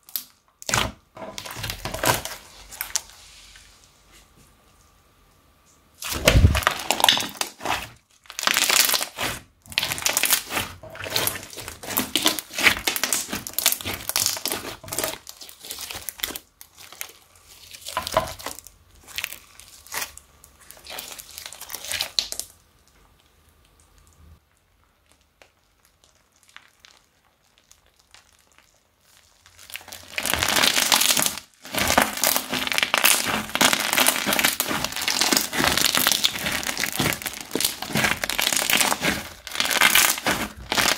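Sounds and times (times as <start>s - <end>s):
sticky slime crackling: 0.0s - 3.1s, 6.0s - 24.2s, 24.8s - 40.9s.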